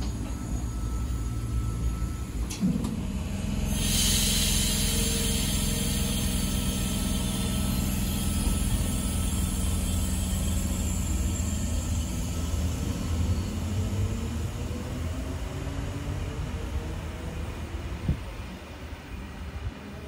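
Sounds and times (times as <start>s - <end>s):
electric train rumbling past: 0.0s - 20.0s.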